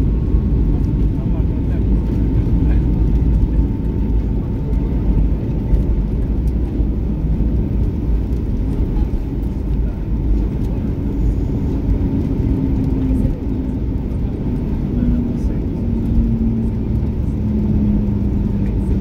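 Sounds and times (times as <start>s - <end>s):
engines and wheels rumbling: 0.0s - 19.0s.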